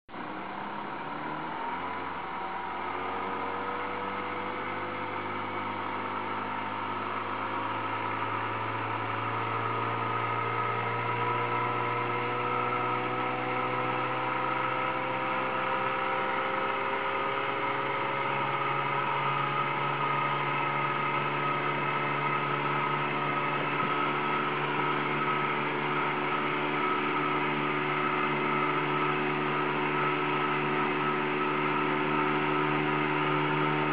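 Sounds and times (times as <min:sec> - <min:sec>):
outboard motor running: 0:00.1 - 0:33.9.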